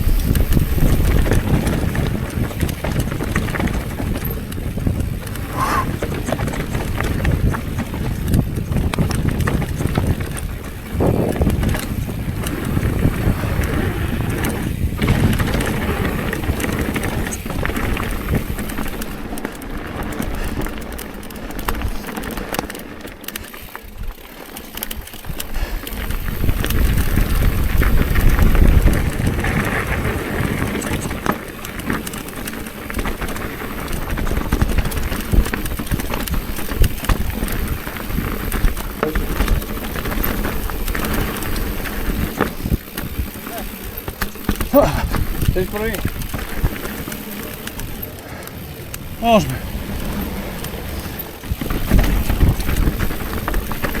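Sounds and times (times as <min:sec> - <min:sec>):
wind buffeting microphone: 0:00.0 - 0:21.0, 0:25.0 - 0:54.0
bike tyre rumble and rattling: 0:00.0 - 0:54.0.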